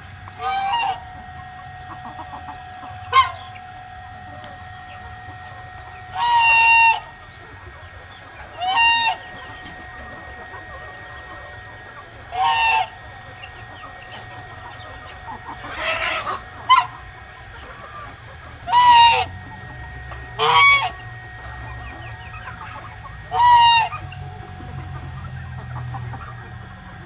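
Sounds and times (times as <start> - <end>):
goose honking: 0.0 - 27.0
rough poultry call: 0.0 - 27.0.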